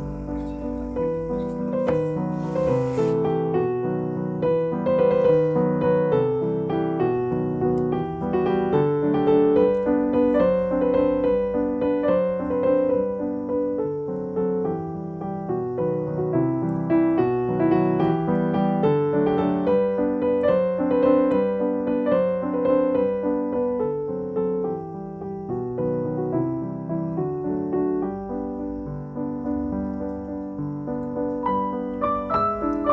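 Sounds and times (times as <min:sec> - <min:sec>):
piano music: 0:00.0 - 0:32.9.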